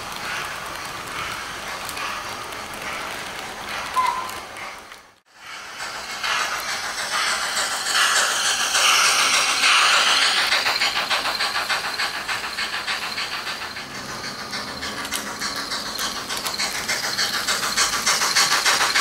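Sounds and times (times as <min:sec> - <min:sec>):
model steam hiss and chuffing: 0:00.0 - 0:19.0
model wheels clicking on track: 0:00.0 - 0:19.0.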